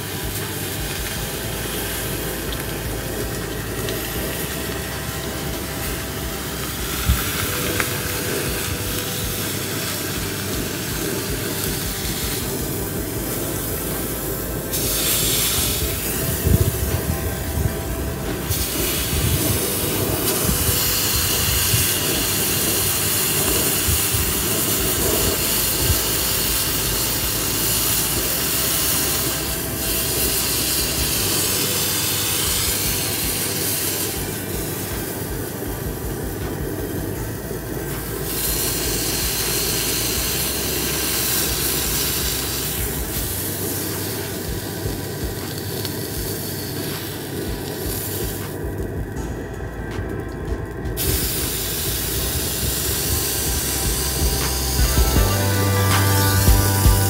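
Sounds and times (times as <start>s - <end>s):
steak sizzling on grill pan: 0.0s - 48.9s, 51.0s - 57.0s.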